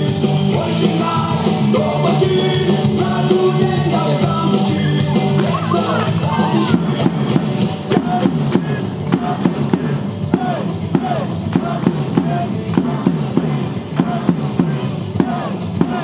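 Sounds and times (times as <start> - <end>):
cheer song over loudspeakers: 0.0 - 16.0.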